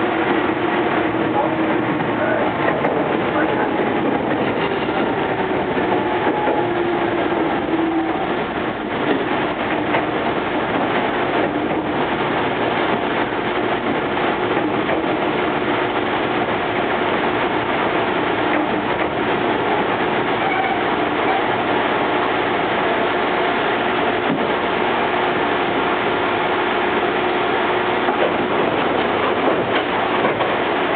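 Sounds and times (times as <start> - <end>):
electric train rumbling on rails: 0.0 - 30.9.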